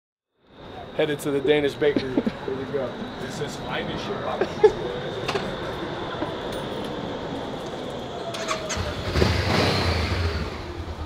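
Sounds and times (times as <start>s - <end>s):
street noise: 0.4s - 11.0s.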